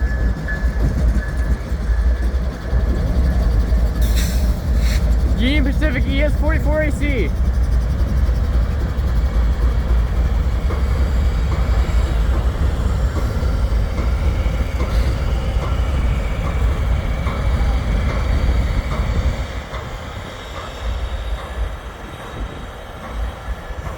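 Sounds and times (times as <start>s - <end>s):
diesel locomotives rumbling: 0.0s - 23.9s
wheels clicking over rail joints: 0.0s - 23.9s.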